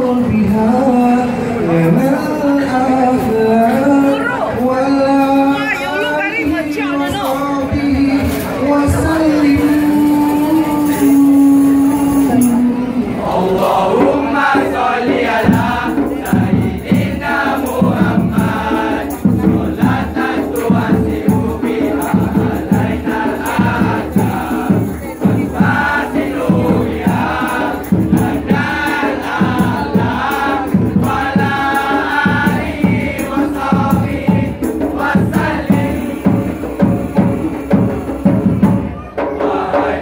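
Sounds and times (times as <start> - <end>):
men singing in unison: 0.0 - 38.5, 39.2 - 40.0
steady drum rhythm: 5.4 - 12.6, 13.6 - 40.0.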